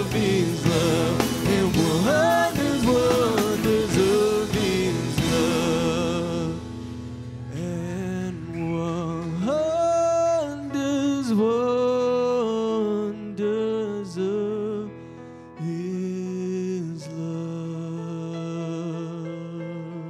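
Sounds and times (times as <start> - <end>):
person singing: 0.0 - 20.0
worship band playing slow song: 0.0 - 20.0.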